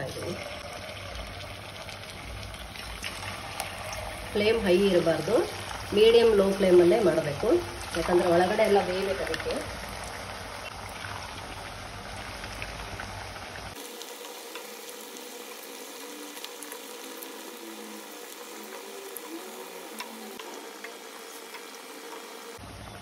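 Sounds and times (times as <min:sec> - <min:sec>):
deep-frying oil sizzling: 0:00.0 - 0:23.0.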